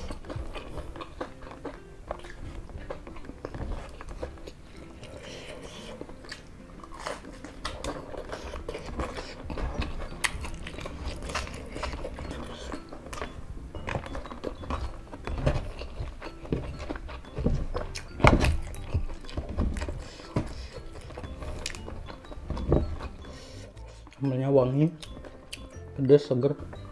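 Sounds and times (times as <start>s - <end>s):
person chewing crispy food: 0.0s - 24.3s, 24.9s - 25.9s.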